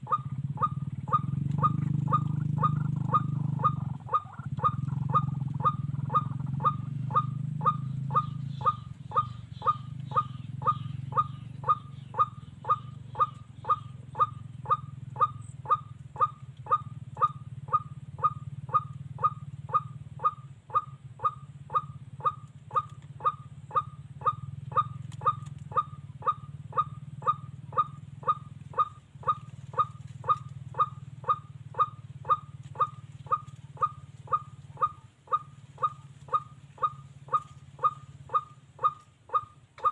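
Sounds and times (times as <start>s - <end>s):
electronic bird call: 0.0s - 39.9s
steady low hum: 0.0s - 39.9s.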